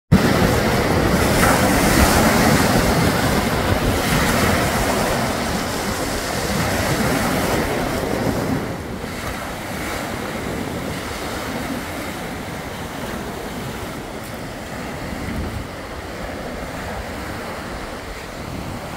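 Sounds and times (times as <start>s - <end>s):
surf breaking on pebble beach: 0.1s - 18.9s
wind on microphone: 0.1s - 18.9s.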